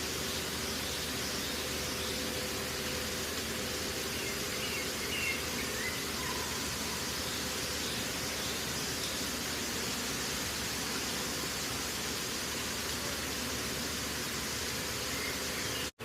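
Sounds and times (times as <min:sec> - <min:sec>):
background hiss: 0:00.0 - 0:15.9.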